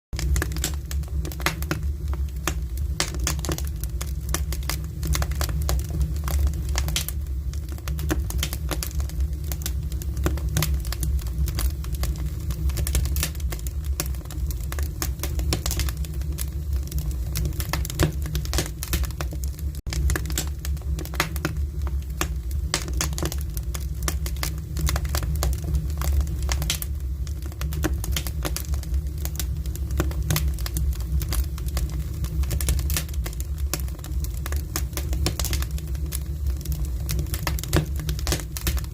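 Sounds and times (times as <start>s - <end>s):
fire crackling and popping: 0.1s - 38.9s
low fire rumble: 0.1s - 38.9s.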